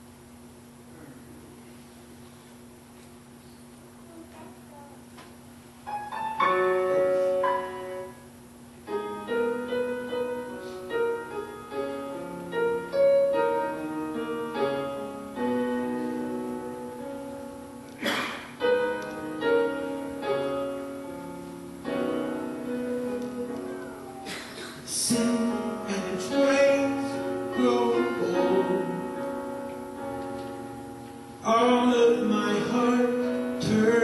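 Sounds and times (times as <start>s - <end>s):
slow piano playing: 5.8s - 34.0s.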